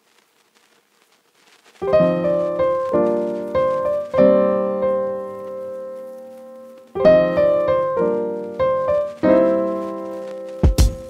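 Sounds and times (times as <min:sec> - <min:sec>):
piano music: 0:01.8 - 0:11.0.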